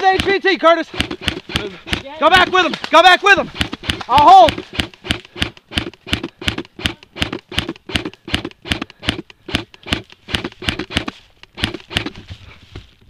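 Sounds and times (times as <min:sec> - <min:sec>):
running footsteps on ground: 0:00.0 - 0:13.0.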